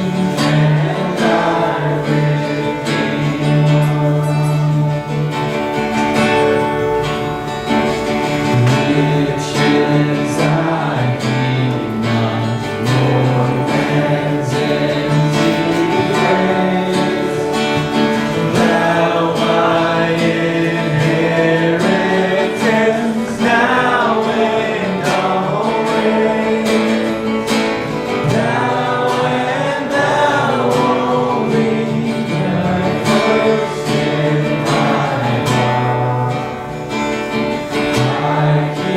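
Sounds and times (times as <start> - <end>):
acoustic guitar strumming: 0.0 - 38.9
person singing: 0.0 - 38.9.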